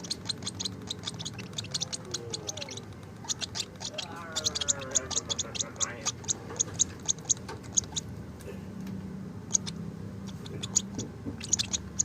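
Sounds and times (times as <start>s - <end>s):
baby bird chirping: 0.0s - 8.2s, 9.4s - 12.0s.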